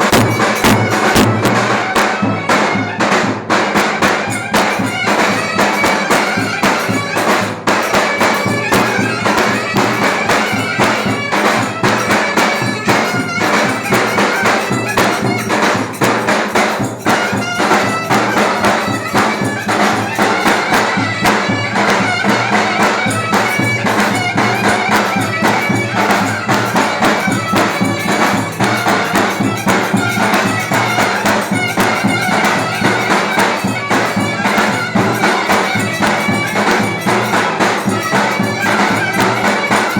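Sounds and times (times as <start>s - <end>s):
driving drum beat: 0.0s - 39.9s
clarinet melody: 4.1s - 16.1s, 17.0s - 39.9s.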